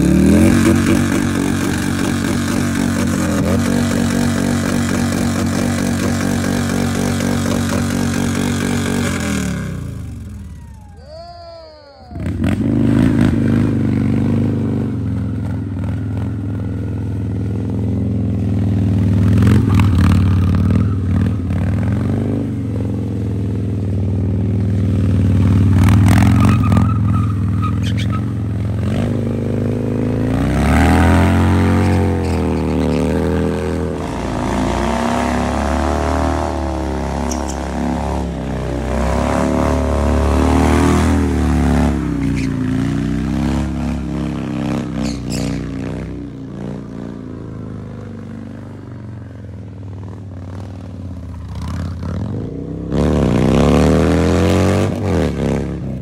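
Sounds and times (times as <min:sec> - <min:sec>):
motorcycle engine revving: 0:00.0 - 0:11.3, 0:12.0 - 0:56.0.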